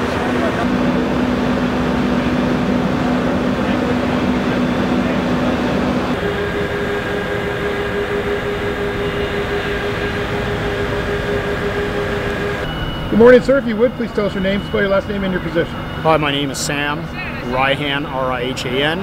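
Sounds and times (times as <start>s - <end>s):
constant low hum: 0.0s - 19.0s
engine and traffic rumble: 0.0s - 19.0s.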